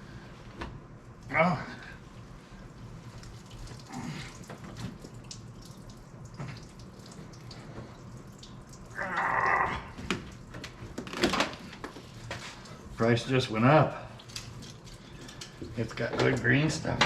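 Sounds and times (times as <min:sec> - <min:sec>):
liquid running and dripping: 0:00.0 - 0:17.0.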